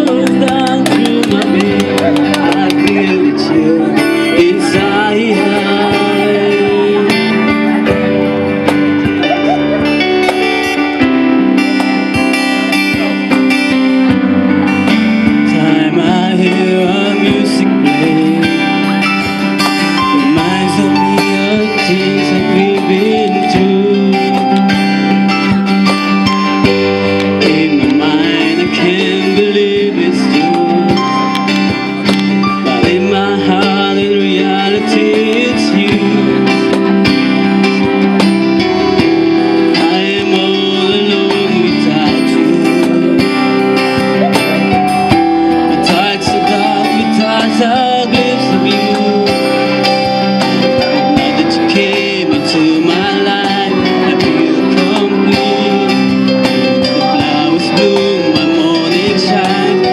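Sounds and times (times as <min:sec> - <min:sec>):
electric keyboard: 0:00.0 - 0:59.9
man singing into a microphone: 0:00.0 - 0:59.9
strummed acoustic guitar: 0:00.0 - 0:59.9.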